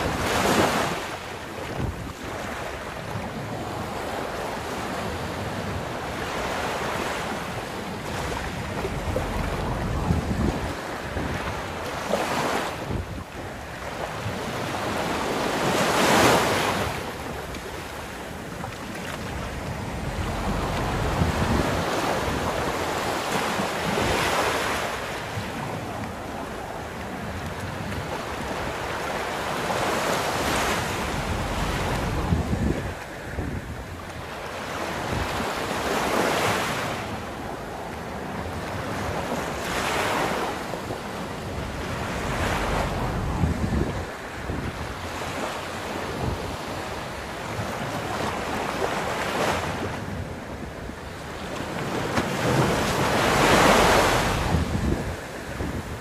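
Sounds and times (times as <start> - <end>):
sea waves breaking on beach: 0.0 - 56.0
wind buffeting microphone: 0.0 - 56.0.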